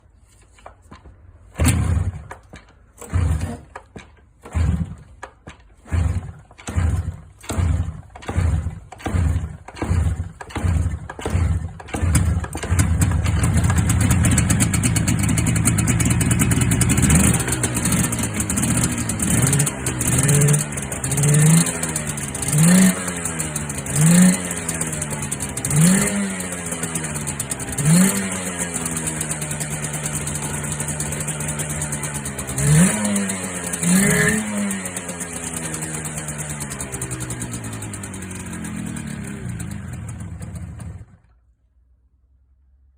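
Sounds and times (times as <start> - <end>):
two-stroke motorcycle engine revving: 1.6 - 2.4, 3.0 - 41.3.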